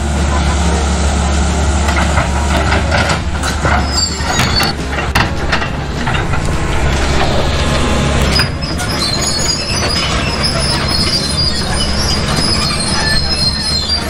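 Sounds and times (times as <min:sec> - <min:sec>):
excavator diesel engine running: 0:00.0 - 0:14.0
steel tracks squealing and clanking: 0:01.8 - 0:14.0.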